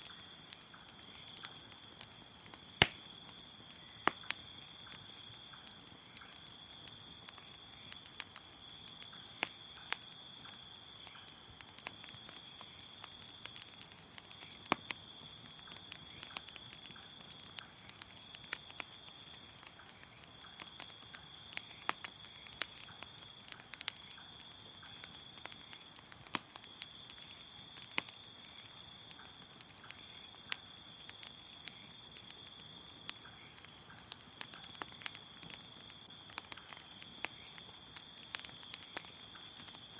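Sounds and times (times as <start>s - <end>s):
crickets chirping: 0.0s - 39.9s
lower cricket trill: 0.0s - 39.9s
wood fire crackling and popping: 0.0s - 39.9s.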